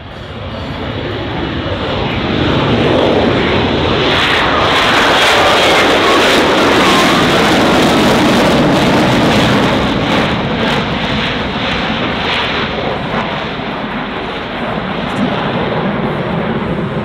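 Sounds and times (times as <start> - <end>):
jet engine rumbling at full power: 0.0 - 17.0.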